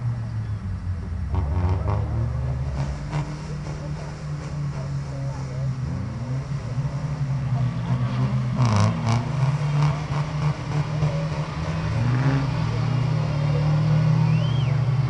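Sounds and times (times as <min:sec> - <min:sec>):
off-road engine running: 0:00.0 - 0:15.0.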